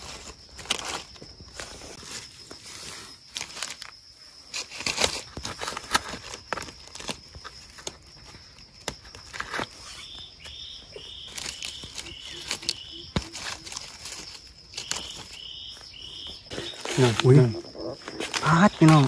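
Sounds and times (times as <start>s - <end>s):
footsteps rustling through undergrowth: 0.0s - 19.0s
high insect whine: 0.0s - 19.0s.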